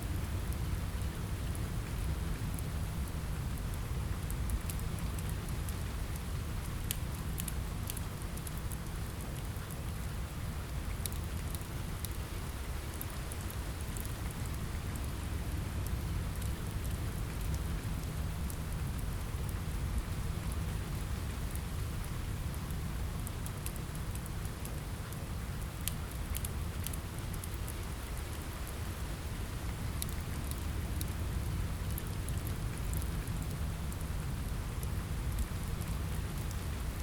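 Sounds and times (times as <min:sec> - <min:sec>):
rain on a window: 0:00.0 - 0:37.0.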